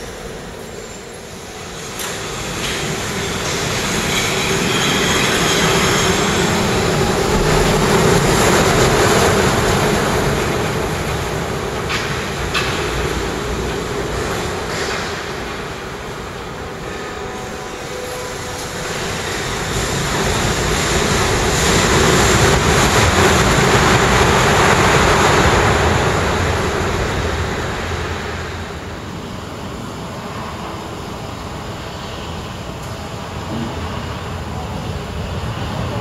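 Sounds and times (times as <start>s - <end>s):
monorail car rumbling on track: 0.0s - 36.0s.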